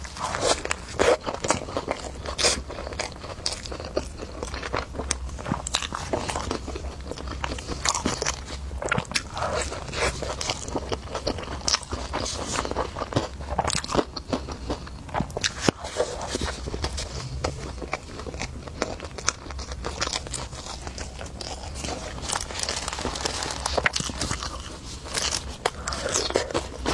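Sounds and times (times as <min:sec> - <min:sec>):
person chewing food: 0:00.0 - 0:26.9.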